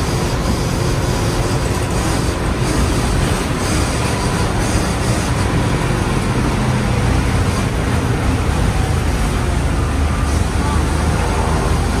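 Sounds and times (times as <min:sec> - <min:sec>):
bus engine drone: 0:00.0 - 0:12.0
road and wind noise: 0:00.0 - 0:12.0.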